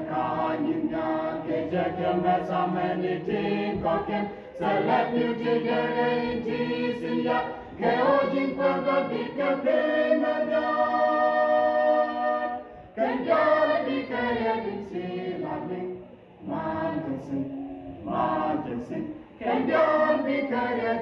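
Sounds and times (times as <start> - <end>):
choir singing a hymn: 0.0 - 21.0.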